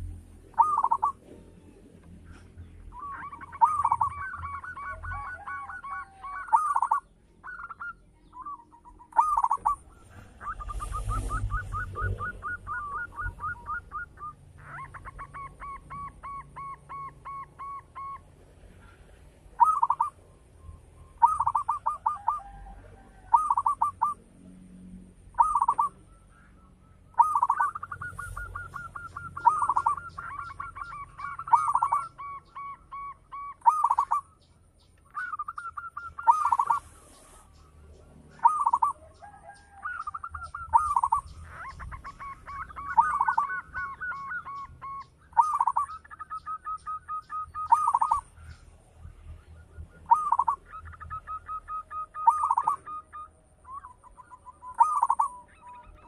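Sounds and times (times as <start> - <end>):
doves cooing: 0.0 - 34.4, 35.0 - 56.0
faint high chirping: 0.0 - 56.0.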